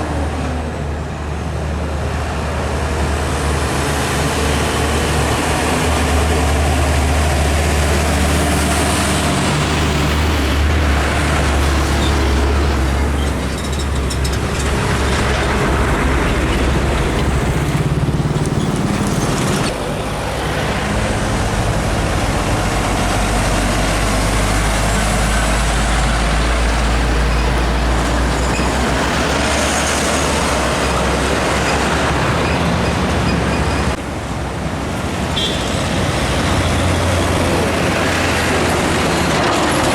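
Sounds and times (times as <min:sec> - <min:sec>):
diesel trucks passing: 0:00.0 - 0:39.9
tyre and road noise: 0:00.0 - 0:39.9.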